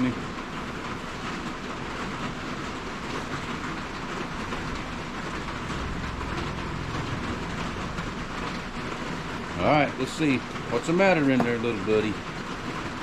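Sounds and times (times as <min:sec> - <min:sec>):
steady rain pattering: 0:00.0 - 0:13.0.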